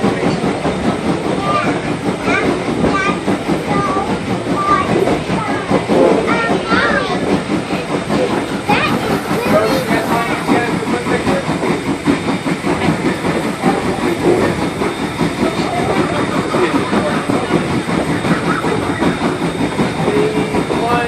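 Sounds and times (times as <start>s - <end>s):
train rumbling and rattling: 0.0s - 21.0s.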